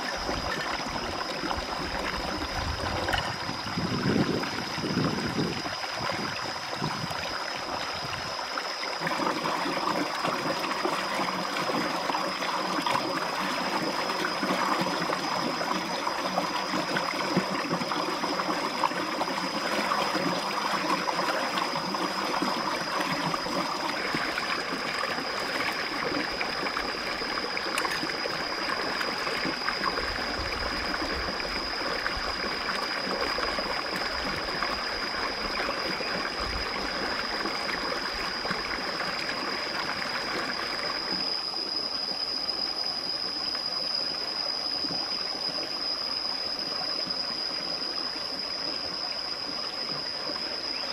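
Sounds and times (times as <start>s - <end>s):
steady high-pitched tone: 0.0s - 50.9s
stream running over rocks: 0.0s - 50.9s.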